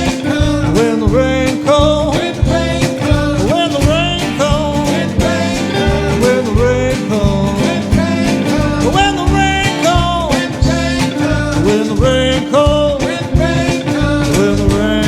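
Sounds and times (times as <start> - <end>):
bass: 0.0 - 15.0
lead line with bending notes: 0.0 - 15.0
steady drum beat: 0.0 - 15.0
strummed guitar: 0.0 - 15.0.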